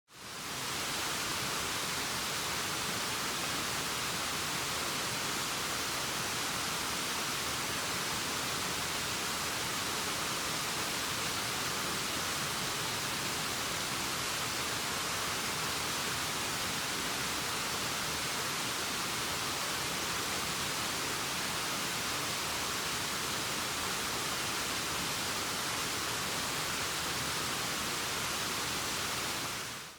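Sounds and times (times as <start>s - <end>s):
waterfall rushing: 0.3s - 29.9s.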